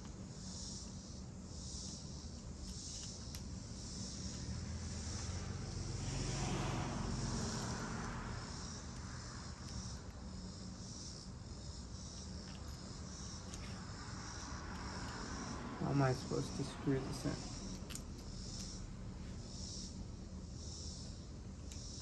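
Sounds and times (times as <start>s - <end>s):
insects chirping: 0.0s - 22.0s
passing vehicle hum: 3.6s - 22.0s.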